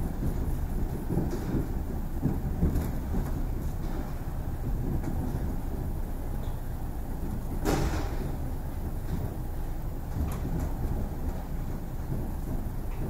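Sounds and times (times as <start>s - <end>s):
train wheels rumbling on rails: 0.0s - 13.0s
wheels clacking over track joints: 0.0s - 13.0s.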